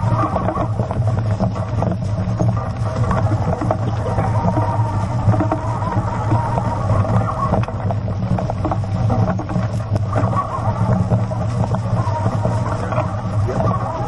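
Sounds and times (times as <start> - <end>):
cart rattling clicks and knocks: 0.0 - 14.0
cart wheels rumbling on dirt: 0.0 - 14.0.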